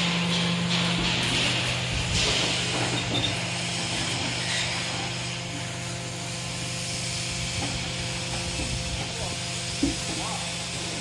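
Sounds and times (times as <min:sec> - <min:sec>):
hiss: 0:00.0 - 0:11.0
hydraulic motor humming: 0:00.0 - 0:11.0.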